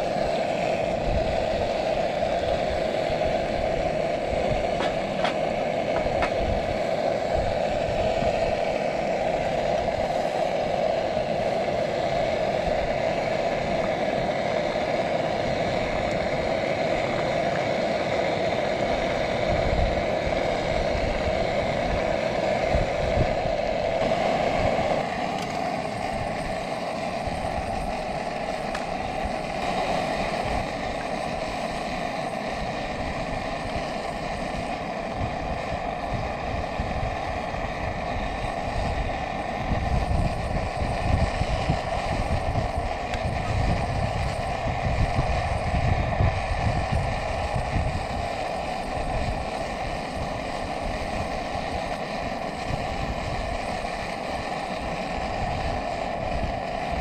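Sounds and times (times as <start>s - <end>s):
wind buffeting microphone: 0.0s - 54.4s
gas burner roaring: 0.0s - 57.0s.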